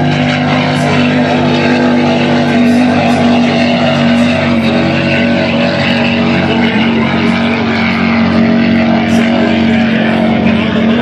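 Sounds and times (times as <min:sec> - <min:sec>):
powerboat engines droning: 0:00.0 - 0:11.0.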